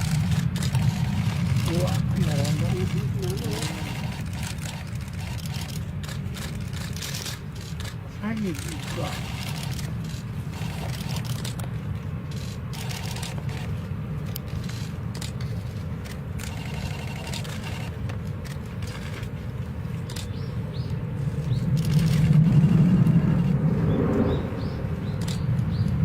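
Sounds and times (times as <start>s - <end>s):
distant jet engines rumbling: 0.0s - 26.0s.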